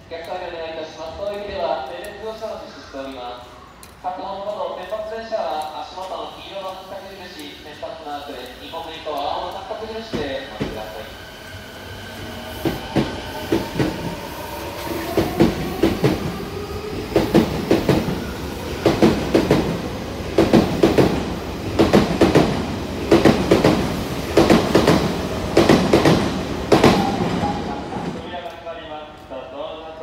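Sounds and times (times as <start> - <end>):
train rumble: 4.4 - 30.0.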